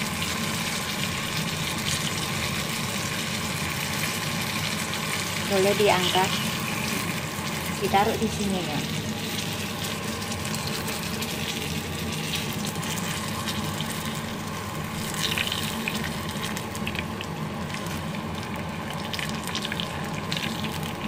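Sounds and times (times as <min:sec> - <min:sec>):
food sizzling in oil: 0:00.0 - 0:21.0
steady low hum: 0:00.0 - 0:21.0.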